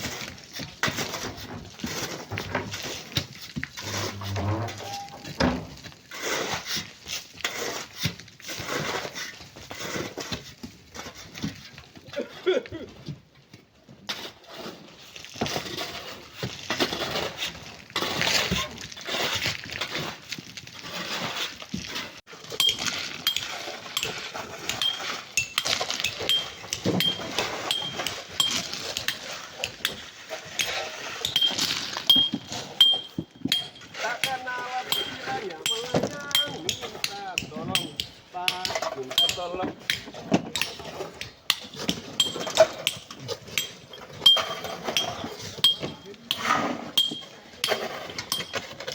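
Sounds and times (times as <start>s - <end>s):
hand tools digging sand and stones: 0.0s - 12.0s, 14.0s - 48.9s.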